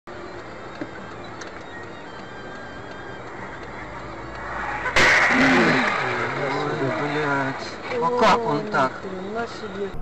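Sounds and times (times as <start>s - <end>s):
car road and engine noise: 0.1s - 10.0s
faint music: 0.1s - 10.0s.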